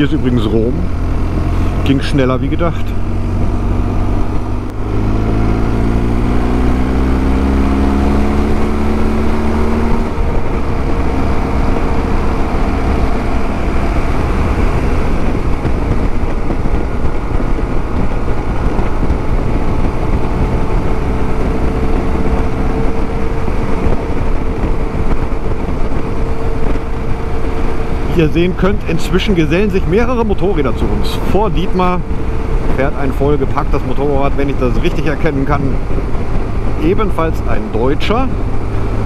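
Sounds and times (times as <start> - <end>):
motorcycle engine revving: 0.0 - 39.0
road rumble: 0.0 - 39.0
wind noise: 0.0 - 39.0.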